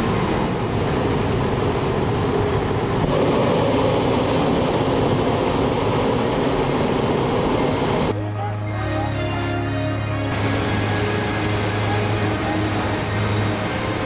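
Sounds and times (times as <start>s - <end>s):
propane burner roaring: 0.0s - 8.2s, 10.3s - 14.0s.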